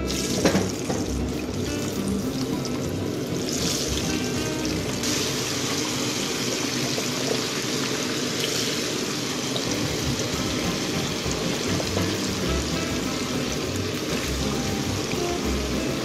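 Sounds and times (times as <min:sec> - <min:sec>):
potatoes deep-frying in oil: 0:00.0 - 0:16.0.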